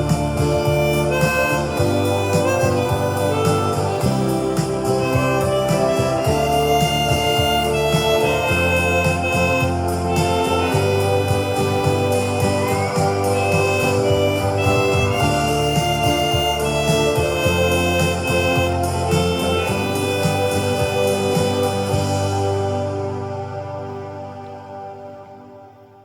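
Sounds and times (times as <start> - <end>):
harmonica playing slow melody: 0.0 - 25.1
backing accompaniment with bass line: 0.0 - 25.5.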